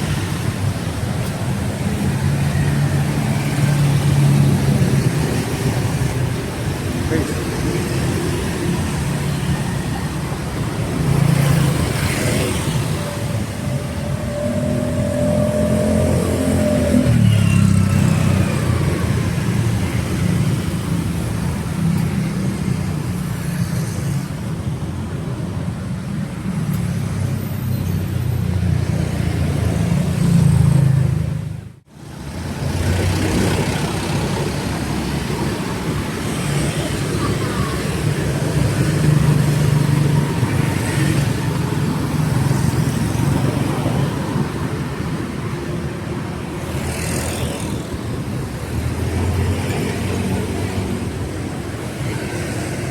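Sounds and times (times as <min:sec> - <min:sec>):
cars passing: 0:00.0 - 0:52.9.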